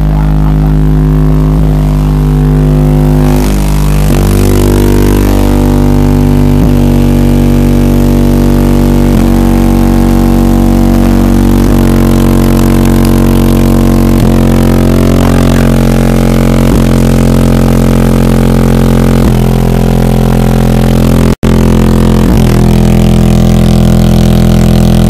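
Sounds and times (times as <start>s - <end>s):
deep droning bass notes: 0.0s - 25.0s.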